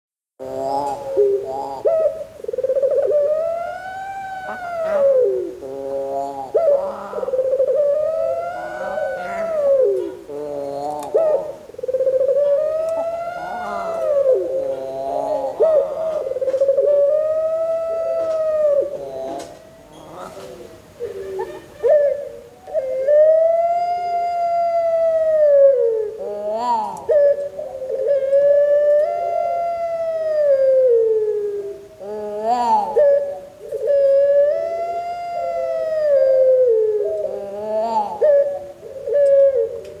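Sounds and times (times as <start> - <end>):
dove cooing: 0.4 - 40.0.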